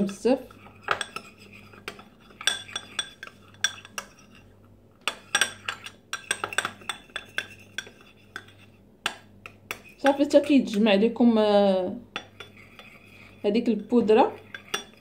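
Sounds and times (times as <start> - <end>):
metal spoon stirring in glass bowl: 0.0 - 8.8, 9.4 - 10.8, 12.1 - 15.0.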